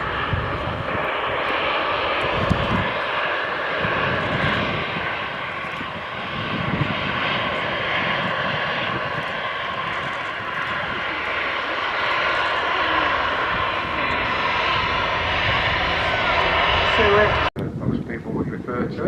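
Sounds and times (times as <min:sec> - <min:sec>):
jet engine hiss: 0:00.0 - 0:19.0
wind buffeting microphone: 0:00.0 - 0:19.0.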